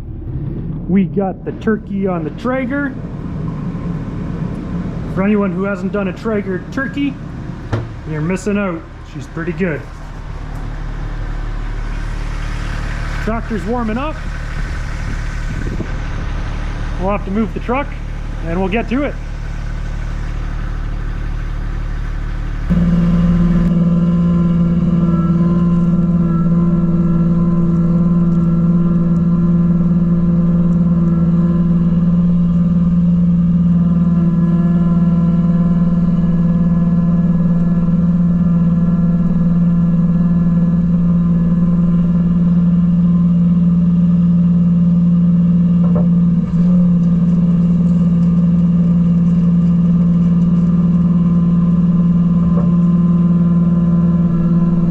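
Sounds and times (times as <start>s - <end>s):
vehicle engine humming: 0.0s - 54.9s.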